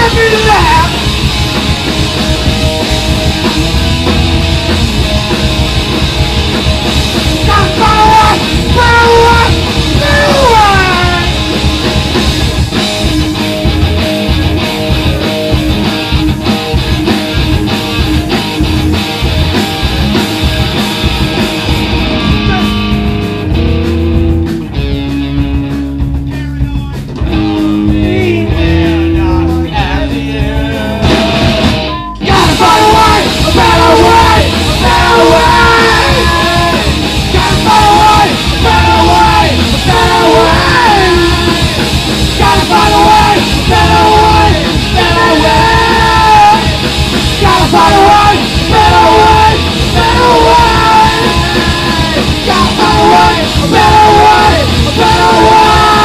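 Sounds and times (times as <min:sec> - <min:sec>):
live punk rock band playing: 0:00.0 - 0:56.0.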